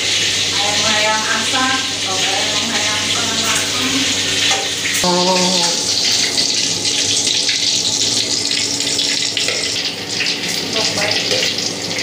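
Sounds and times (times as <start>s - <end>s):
egg sizzling in hot oil: 0.0s - 12.0s.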